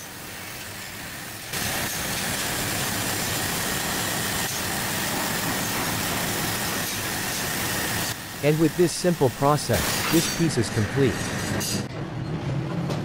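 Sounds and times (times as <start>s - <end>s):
laser cutter cutting jet hiss: 0.0s - 11.8s.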